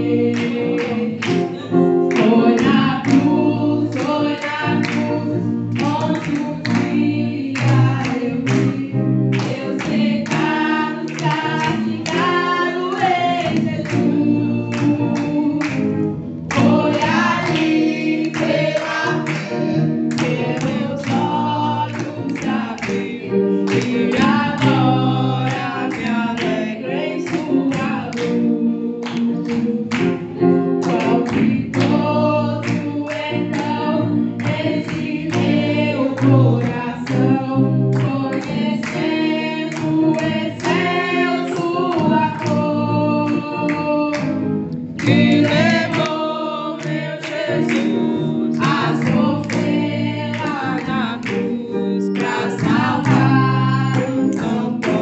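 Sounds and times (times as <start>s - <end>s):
voices singing a hymn: 0.0s - 55.0s.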